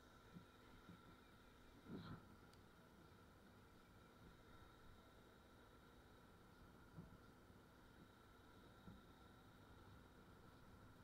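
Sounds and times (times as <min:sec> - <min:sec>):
thin steady hum: 0:00.0 - 0:11.0.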